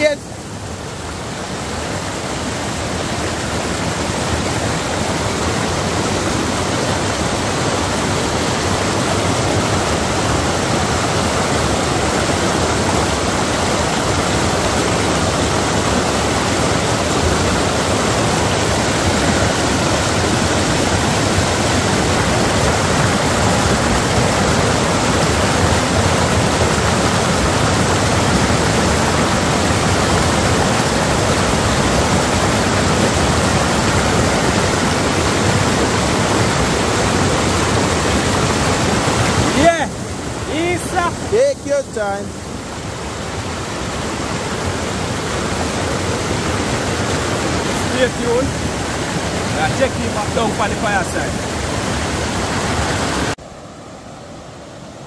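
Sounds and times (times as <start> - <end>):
rushing river water: 0.0 - 55.0.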